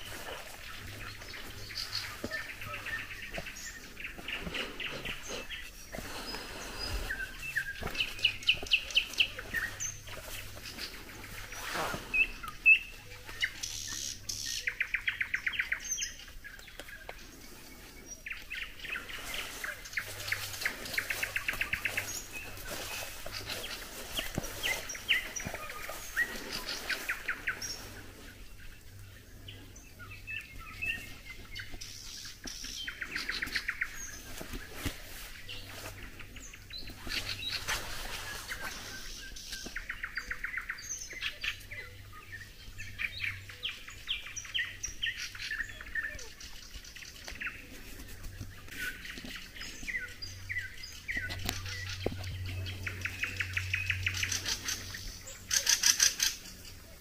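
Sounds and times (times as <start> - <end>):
songbirds singing and trilling: 0.0 - 57.0.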